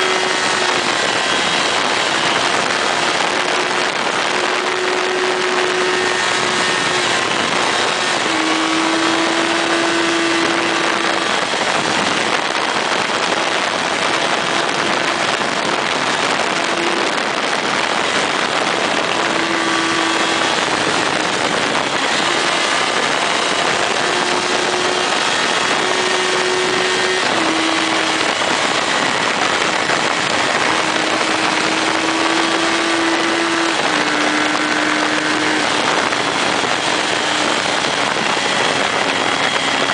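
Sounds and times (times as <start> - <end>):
motorcycle engine running: 0.0 - 39.9
wind rushing: 0.0 - 39.9.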